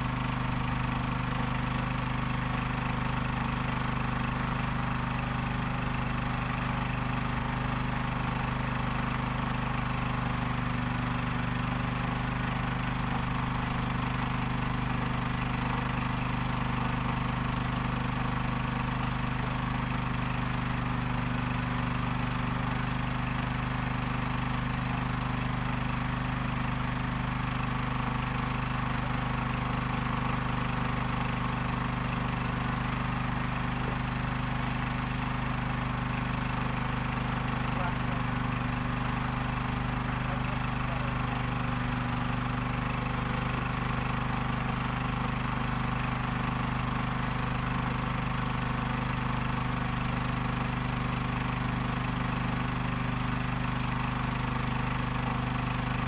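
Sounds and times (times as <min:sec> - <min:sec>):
small stationary engine running: 0:00.0 - 0:56.0.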